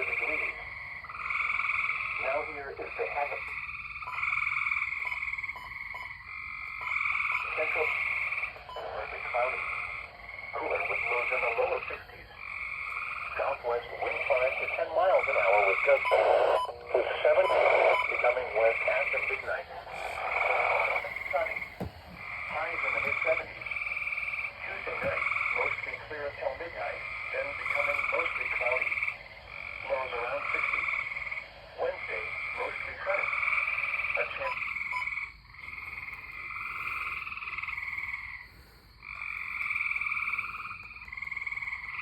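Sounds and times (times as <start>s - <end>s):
lower rough frog calls: 0.0s - 42.0s
tree frogs trilling: 0.0s - 42.0s.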